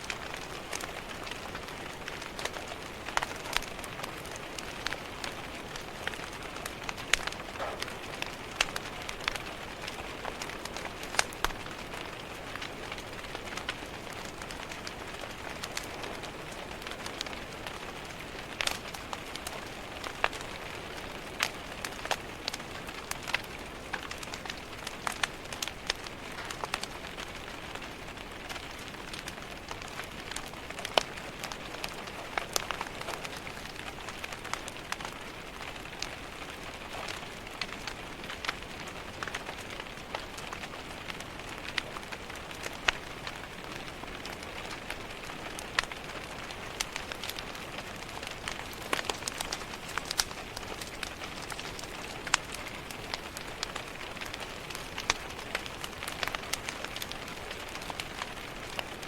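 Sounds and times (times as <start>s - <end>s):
rain on a window: 0.0s - 59.0s
wood fire crackling: 0.0s - 59.0s.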